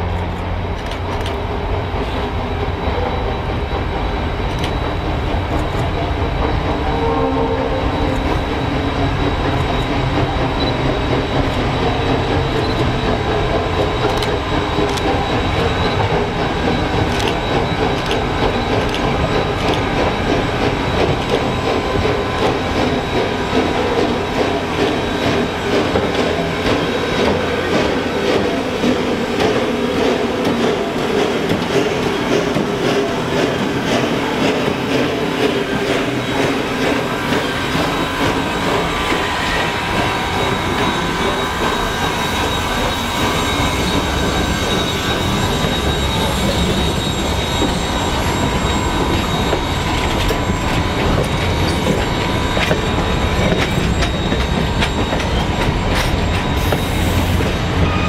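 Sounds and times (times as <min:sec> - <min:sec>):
steam locomotive exhaust beats: 0:00.0 - 0:58.0
wheels clicking on rails: 0:09.0 - 0:57.8.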